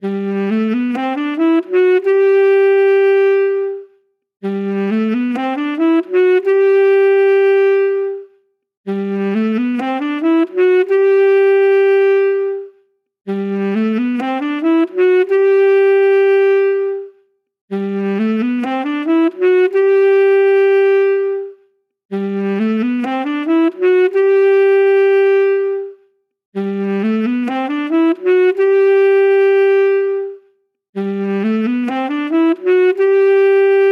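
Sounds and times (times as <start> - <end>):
saxophone phrase: 0.0 - 8.3, 8.9 - 26.0, 26.6 - 30.4, 31.0 - 33.9.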